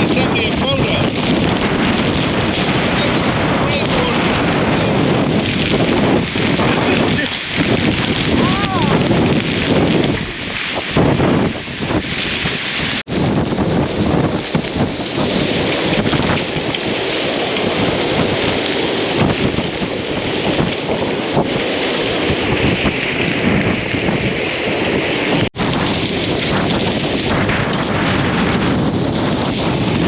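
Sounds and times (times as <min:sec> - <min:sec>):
heavy rain: 0:00.0 - 0:30.0
strong wind buffeting microphone: 0:00.0 - 0:30.0.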